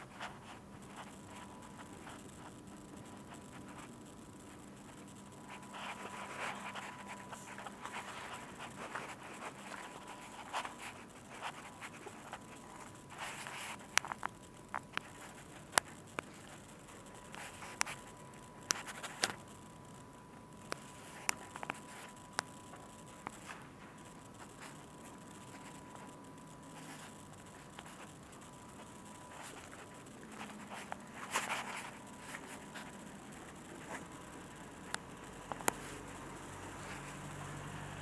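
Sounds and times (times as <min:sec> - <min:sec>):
faint steady high tone: 0:00.0 - 0:38.0.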